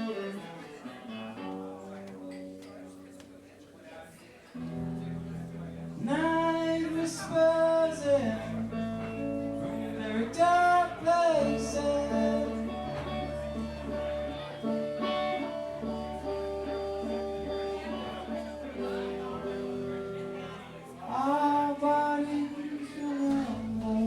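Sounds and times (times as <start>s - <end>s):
live band guitar music: 0.0s - 3.6s, 4.5s - 24.0s
bass: 4.7s - 24.0s.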